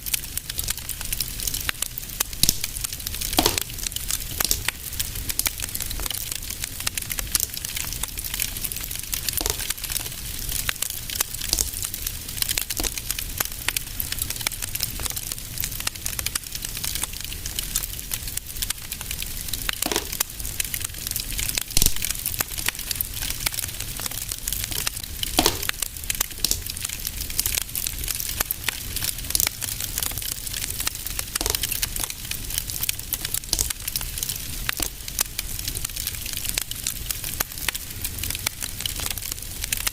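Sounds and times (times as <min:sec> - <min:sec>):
fire crackling: 0:00.0 - 0:39.9
loud fire pops: 0:00.1 - 0:39.9.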